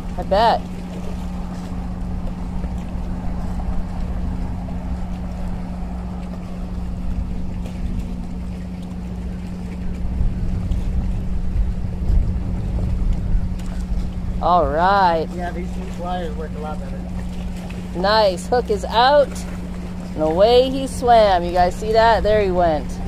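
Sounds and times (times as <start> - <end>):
steady low hum: 0.0 - 23.0
wind buffeting microphone: 0.0 - 23.0.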